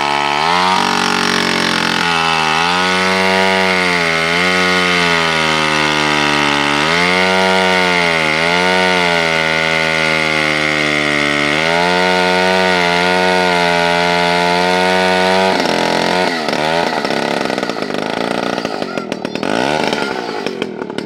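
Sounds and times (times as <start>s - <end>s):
chainsaw cutting through log: 0.0s - 21.0s.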